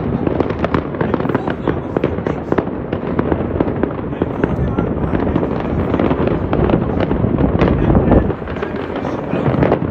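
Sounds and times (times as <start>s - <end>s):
fireworks and firecrackers banging: 0.0s - 9.9s.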